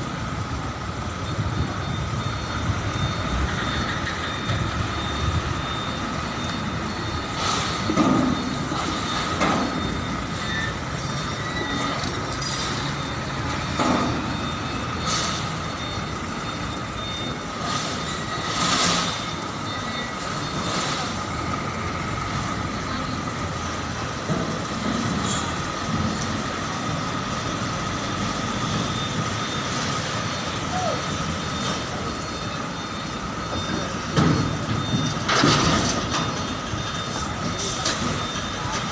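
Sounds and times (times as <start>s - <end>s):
heavy truck engines running: 0.0s - 38.9s.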